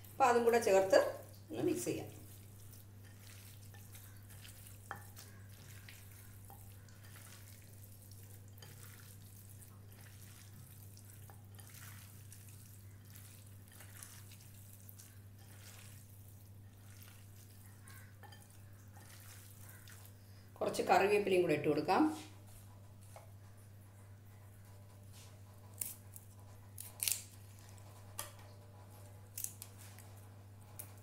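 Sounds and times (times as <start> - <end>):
wet squelches of kneading: 0.0 - 28.2.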